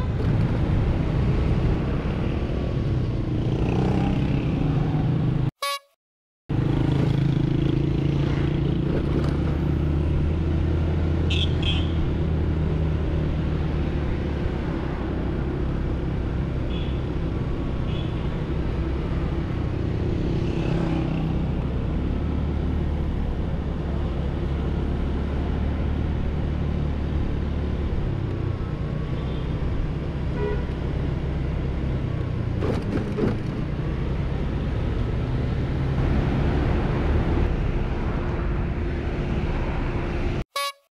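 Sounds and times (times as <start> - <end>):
city traffic rumble: 0.0 - 5.8, 6.5 - 40.8.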